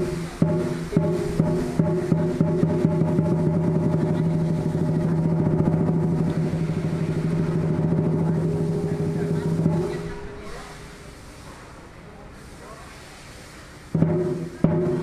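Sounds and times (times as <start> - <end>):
drum strikes: 0.0 - 11.0, 13.9 - 15.0
cymbal strikes: 0.0 - 11.2, 13.9 - 15.0.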